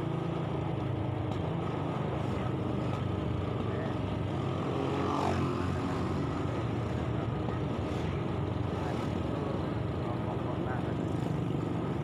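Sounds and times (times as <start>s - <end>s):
motorbike engine hum: 0.0s - 12.0s
road and wind noise: 0.0s - 12.0s.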